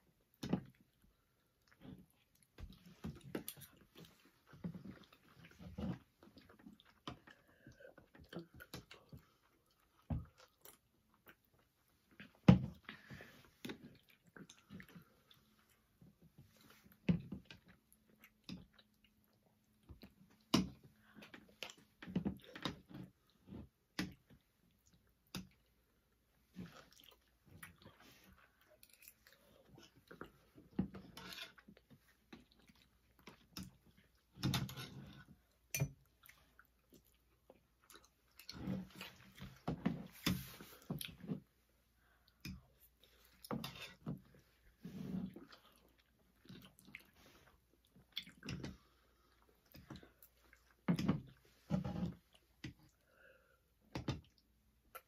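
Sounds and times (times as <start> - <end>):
people chewing food: 0.0 - 55.0.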